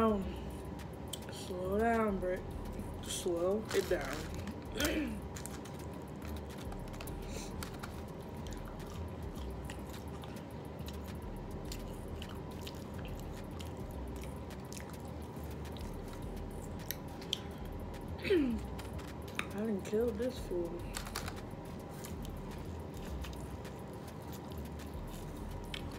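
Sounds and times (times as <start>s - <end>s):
faint electrical hum: 0.0s - 25.9s
chewing crunchy food: 1.9s - 25.9s.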